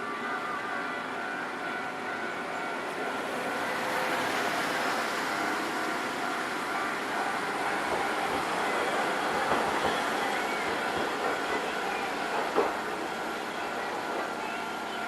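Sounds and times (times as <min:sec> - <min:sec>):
tram running over level crossing: 0:02.7 - 0:15.0.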